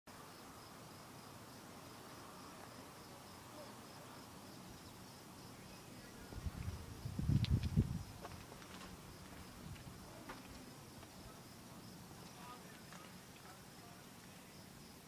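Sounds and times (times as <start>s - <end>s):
faint insect chirping: 0.1s - 15.0s
quiet outdoor hiss: 0.1s - 15.0s.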